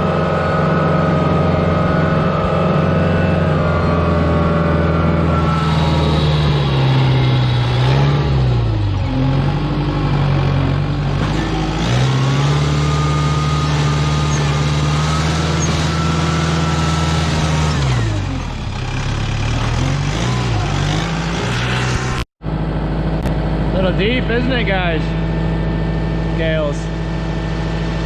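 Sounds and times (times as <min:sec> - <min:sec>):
tractor engine revving: 0:00.0 - 0:28.0.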